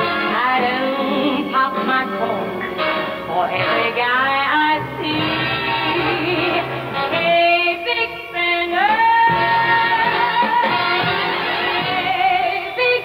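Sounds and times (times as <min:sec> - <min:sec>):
big band playing show tune: 0:00.0 - 0:13.0
woman singing: 0:00.0 - 0:13.0.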